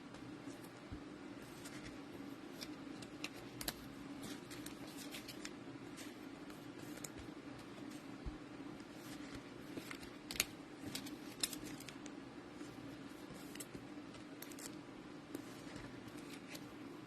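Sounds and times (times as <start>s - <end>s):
steady low hum: 0.0s - 17.0s
trading cards clicking and rustling: 1.5s - 8.1s, 8.8s - 16.8s.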